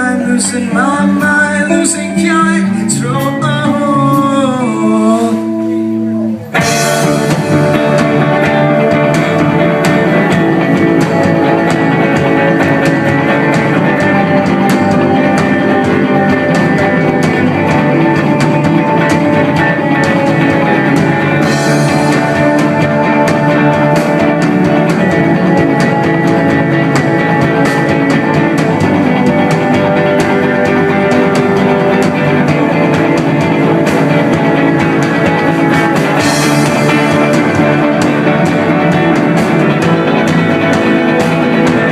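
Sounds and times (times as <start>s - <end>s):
drum kit: 0.0s - 41.9s
guitars: 0.0s - 41.9s.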